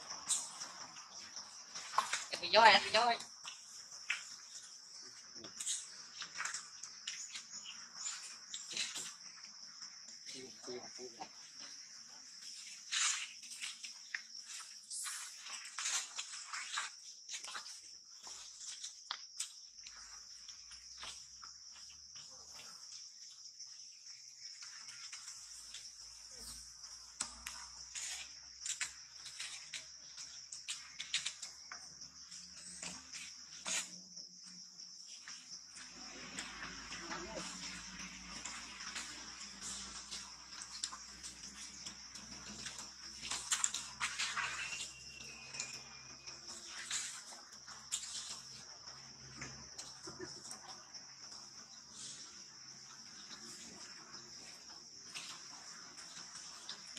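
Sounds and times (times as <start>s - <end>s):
high-pitched insect drone: 0.0s - 55.3s.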